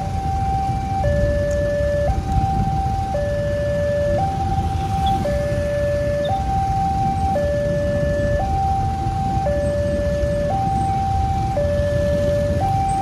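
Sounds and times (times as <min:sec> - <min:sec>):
level crossing two-tone alarm: 0:00.0 - 0:13.0
traffic rumble: 0:00.0 - 0:13.0.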